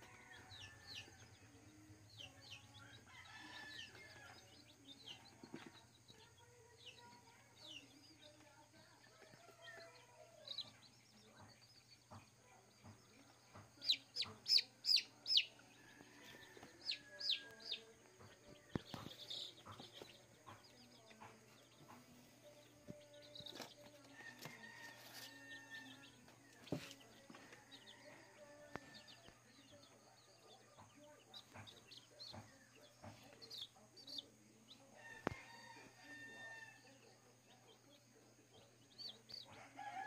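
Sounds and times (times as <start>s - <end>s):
chicks peeping: 0.1s - 40.0s.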